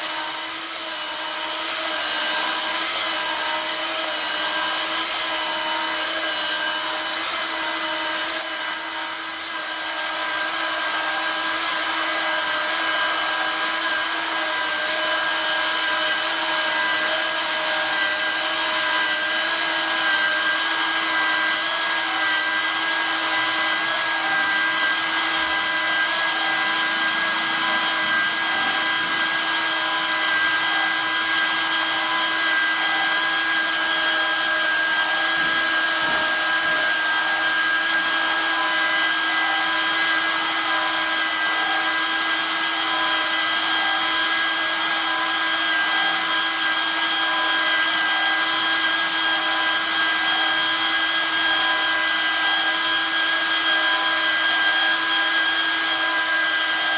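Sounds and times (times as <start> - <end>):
pipe cutting machine motor whine: 0.0 - 56.9.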